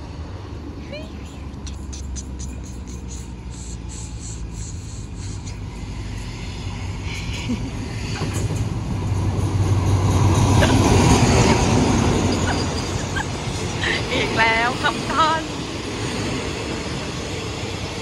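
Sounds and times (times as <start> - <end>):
diesel train engine hum: 0.0 - 18.0.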